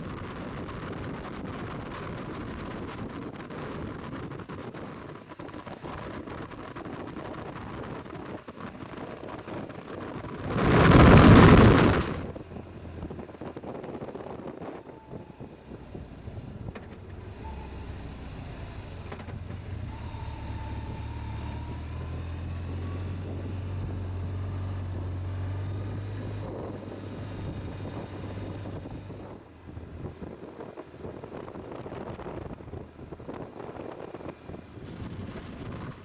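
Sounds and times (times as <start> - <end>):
wind noise: 0.0 - 17.6, 19.7 - 36.0
vehicle engine hum: 0.0 - 36.0.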